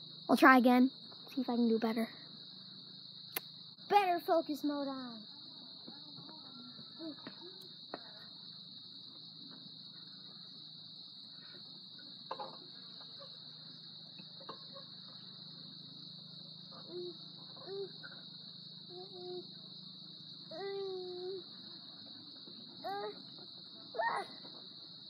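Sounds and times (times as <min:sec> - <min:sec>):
high insect chorus: 0:00.0 - 0:25.0.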